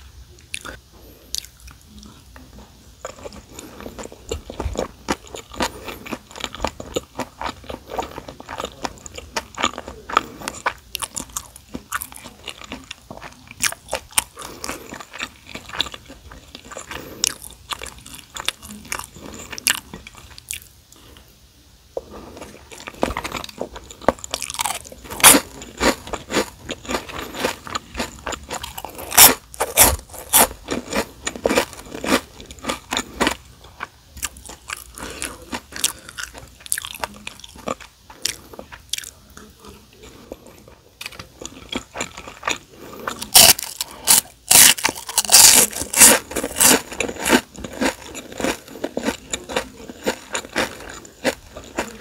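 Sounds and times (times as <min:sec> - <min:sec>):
soft chewing of rice: 0:00.0 - 0:52.0
crunchy chewing of seaweed chips: 0:00.3 - 0:21.2, 0:22.0 - 0:52.0.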